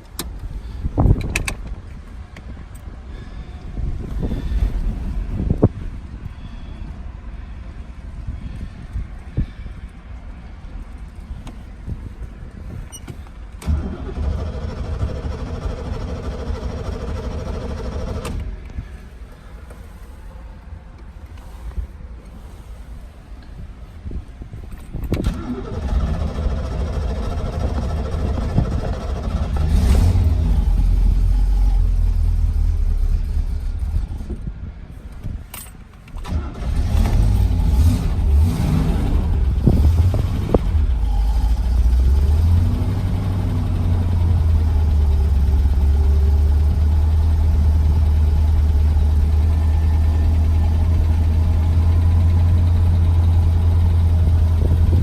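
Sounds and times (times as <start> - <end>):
car engine starting and idling: 0.0 - 55.0.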